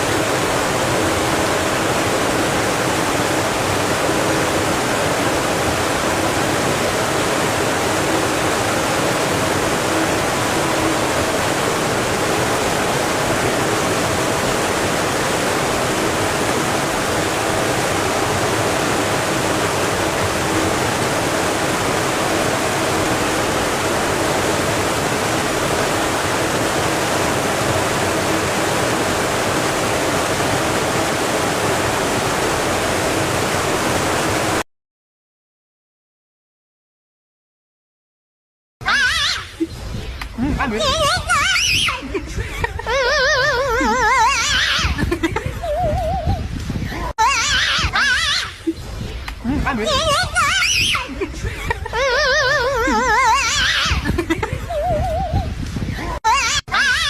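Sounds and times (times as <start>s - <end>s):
steady rushing noise: 0.0s - 34.6s, 39.2s - 56.2s.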